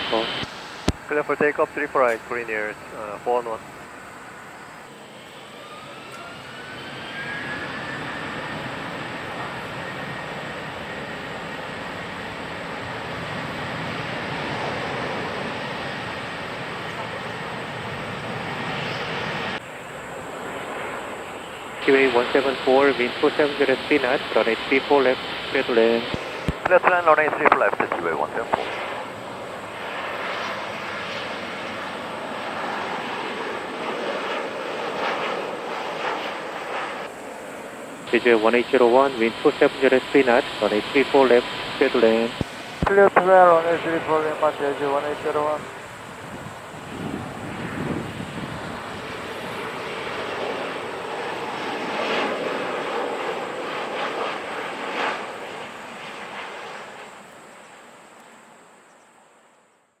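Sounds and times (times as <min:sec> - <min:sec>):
jet engines rushing: 0:00.0 - 0:57.1.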